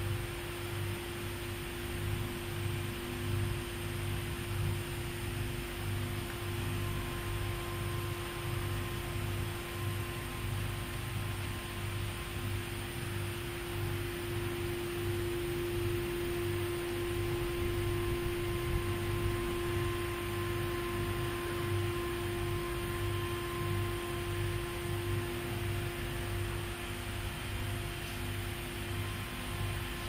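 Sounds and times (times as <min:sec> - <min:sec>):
sewing machine electrical hum: 0:00.0 - 0:30.0.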